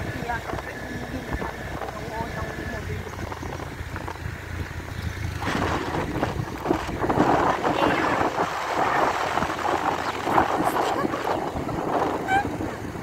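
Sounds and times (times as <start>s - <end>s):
low engine rumble: 0.0s - 13.0s
wind buffeting microphone: 0.0s - 13.0s.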